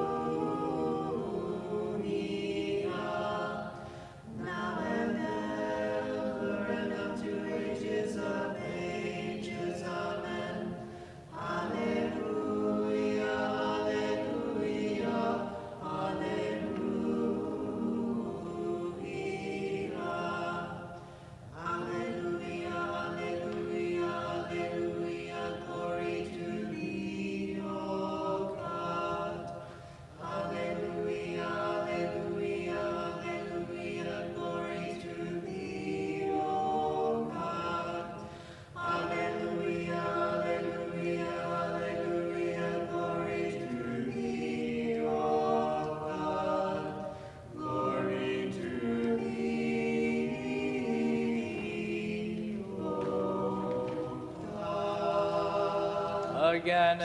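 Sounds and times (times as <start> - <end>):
choir singing unaccompanied chant: 0.0 - 57.0.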